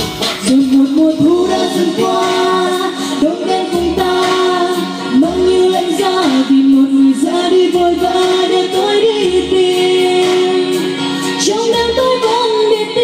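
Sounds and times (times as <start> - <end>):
backing music: 0.0 - 13.0
woman singing into a microphone: 0.3 - 13.0.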